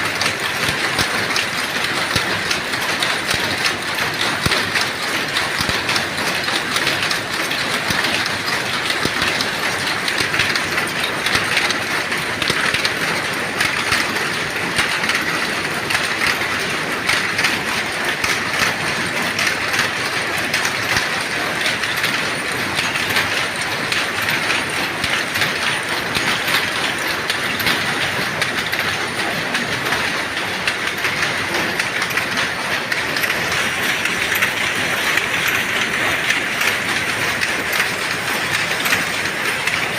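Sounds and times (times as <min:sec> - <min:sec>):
power loom clattering: 0:00.0 - 0:39.9.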